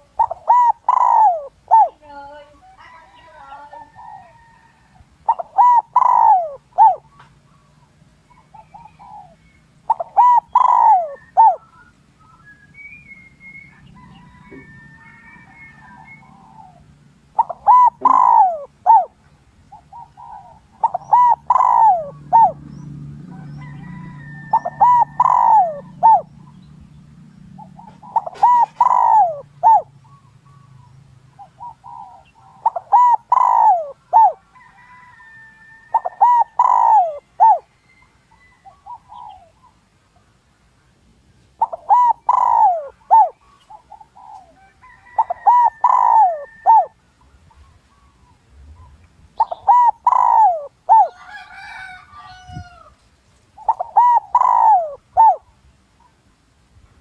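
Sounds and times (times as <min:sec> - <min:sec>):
dove cooing: 0:00.0 - 0:39.8, 0:41.6 - 0:48.2, 0:48.8 - 0:53.0, 0:53.6 - 0:55.5.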